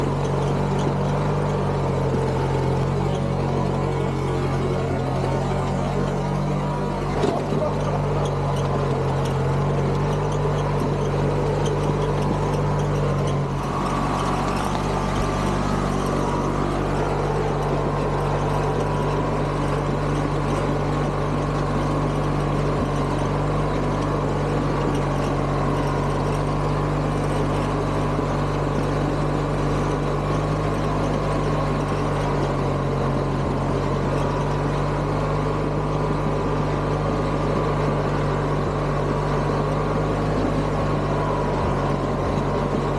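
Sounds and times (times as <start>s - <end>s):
garden tractor engine running: 0.0s - 42.9s.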